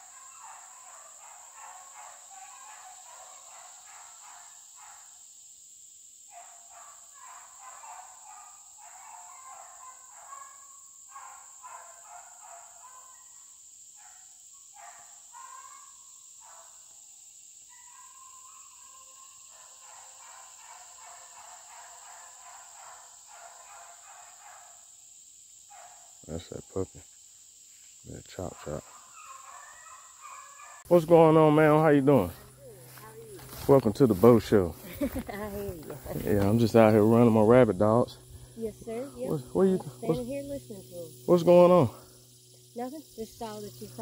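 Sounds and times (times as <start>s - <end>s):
beagles baying: 0.0s - 5.0s, 6.3s - 16.9s, 17.7s - 24.8s, 28.5s - 42.3s
high insect buzz: 0.0s - 44.0s.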